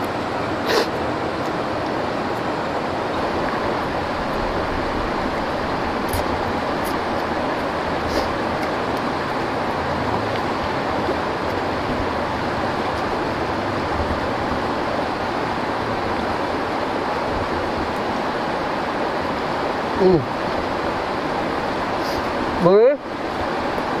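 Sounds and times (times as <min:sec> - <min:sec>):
stream water flowing over rocks: 0:00.0 - 0:24.0.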